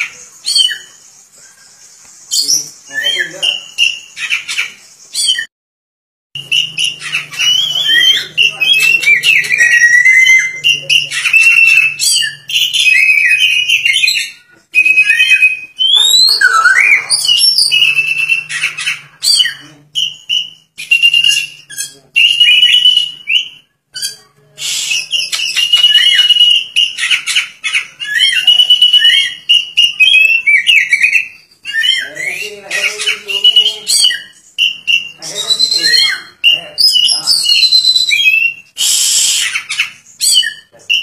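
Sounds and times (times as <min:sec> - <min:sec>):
magpie-robin singing: 0:00.0 - 0:05.5, 0:06.4 - 0:41.0.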